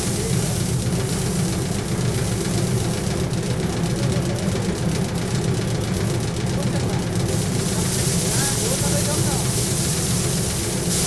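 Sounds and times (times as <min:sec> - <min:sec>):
fast even rattle: 0:00.0 - 0:11.0
thresher humming: 0:00.0 - 0:11.0.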